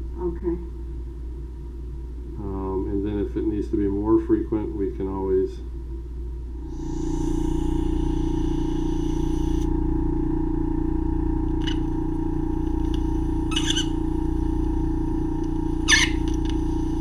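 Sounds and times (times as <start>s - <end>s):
suction unit humming: 0.0s - 17.0s.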